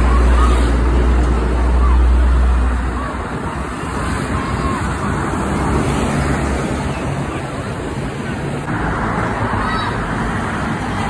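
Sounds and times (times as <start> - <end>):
crowd chattering: 0.0 - 11.0
diesel engine rumble: 0.0 - 11.0
road noise: 0.0 - 11.0.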